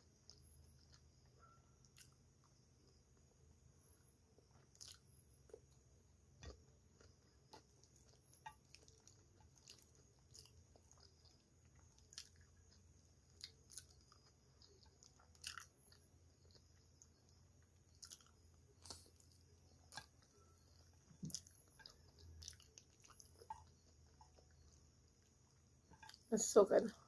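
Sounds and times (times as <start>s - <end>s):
person chewing: 0.1s - 3.3s, 4.4s - 26.3s.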